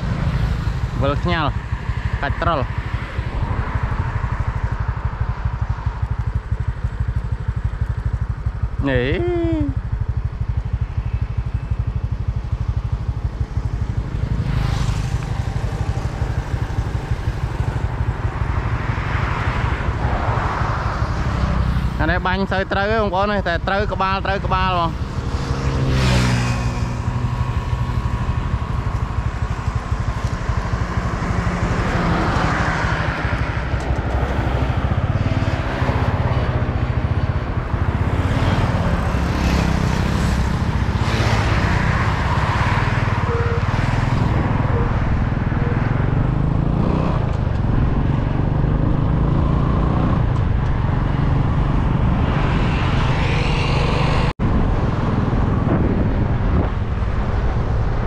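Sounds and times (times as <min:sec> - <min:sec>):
rushing wind noise: 0:00.0 - 0:06.8, 0:13.1 - 0:58.0
motorbike engine running: 0:00.0 - 0:56.2.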